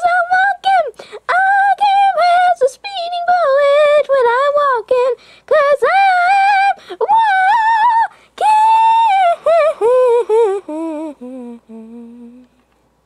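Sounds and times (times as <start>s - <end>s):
high-pitched voice singing: 0.0s - 12.6s.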